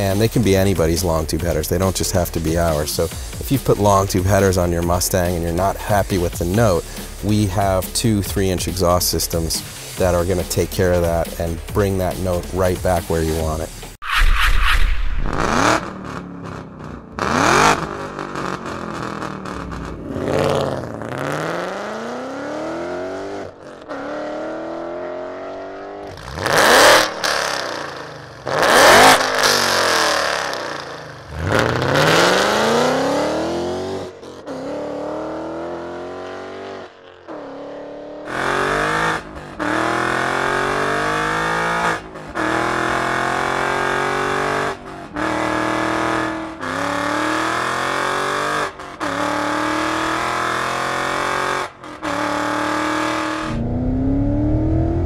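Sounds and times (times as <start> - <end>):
car engine revving hard: 0.0 - 7.8, 15.2 - 55.0.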